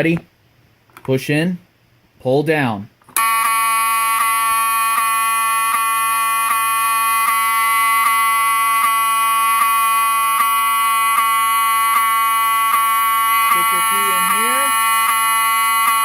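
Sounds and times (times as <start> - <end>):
fire alarm horn buzzing: 3.2 - 16.0.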